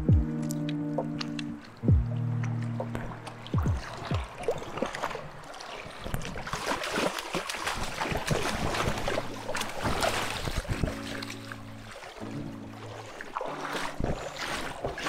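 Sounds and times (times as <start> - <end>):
fish thrashing in water: 1.0 - 15.0.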